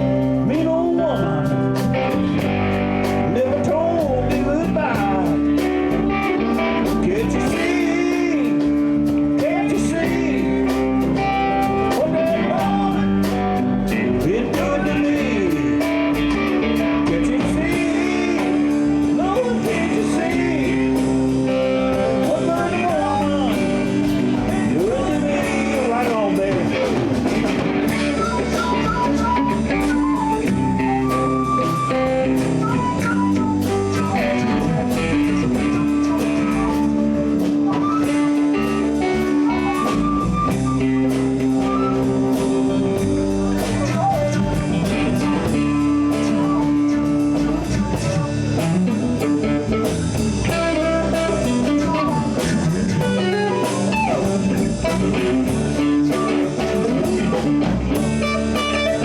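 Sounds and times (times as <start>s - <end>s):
blues band playing: 0.0s - 59.0s
electric guitar lead: 0.0s - 59.0s.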